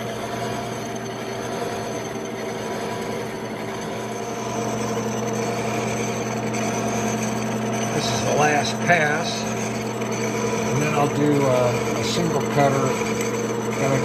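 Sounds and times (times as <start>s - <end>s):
milling machine cutting: 0.0s - 14.0s
motor and gear hum: 0.0s - 14.0s.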